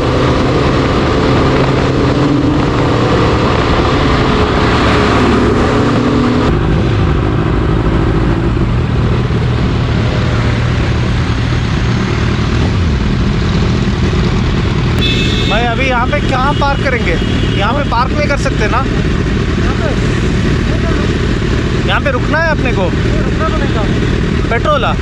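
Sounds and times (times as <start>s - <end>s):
motorcycle engine: 0.0s - 25.0s
road noise: 0.0s - 25.0s
rushing wind: 0.0s - 25.0s.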